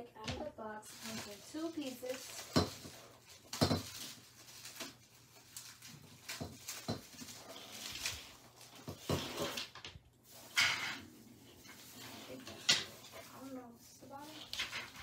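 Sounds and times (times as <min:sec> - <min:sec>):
plastic branches rustling: 0:00.4 - 0:15.0
plastic wrapping crinkling: 0:00.6 - 0:10.6, 0:11.2 - 0:15.0.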